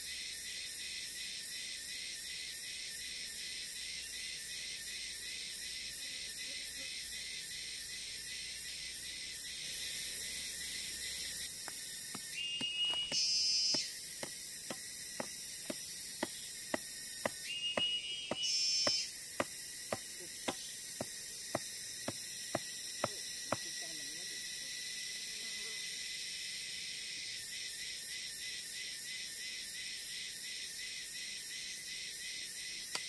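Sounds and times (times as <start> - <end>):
insects buzzing: 0.0 - 33.0.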